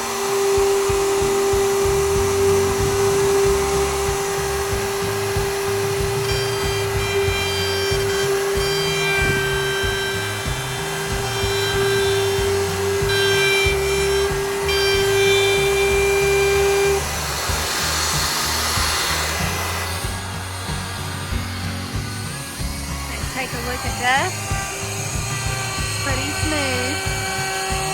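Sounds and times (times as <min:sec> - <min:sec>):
router high whine: 0:00.0 - 0:27.9.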